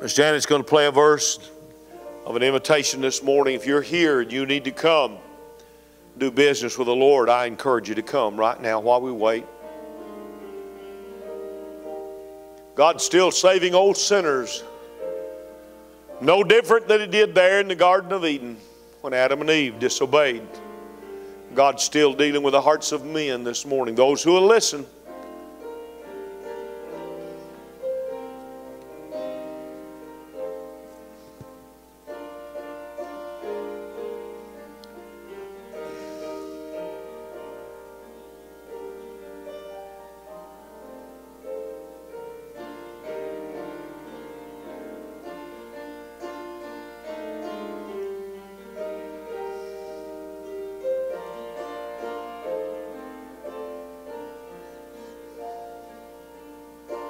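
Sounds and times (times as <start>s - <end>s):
solo piano playing hymn chords: 0.0s - 57.0s.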